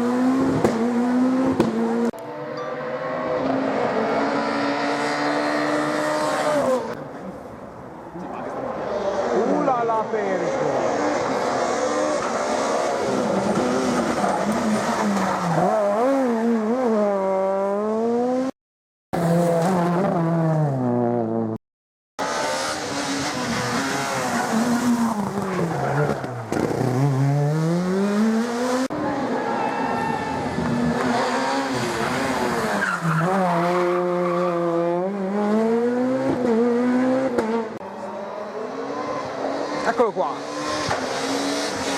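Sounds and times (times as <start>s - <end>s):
rally car engines racing: 0.0s - 18.5s, 19.2s - 21.5s, 22.2s - 41.9s.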